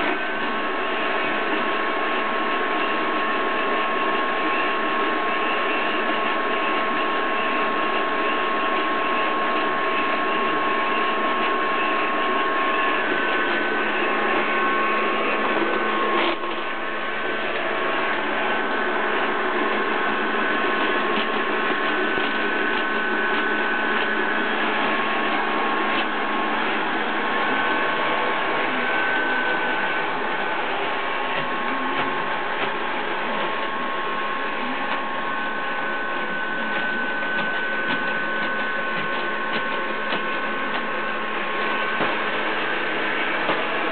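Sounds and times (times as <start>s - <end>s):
robot vacuum cleaner running: 0.0s - 43.9s.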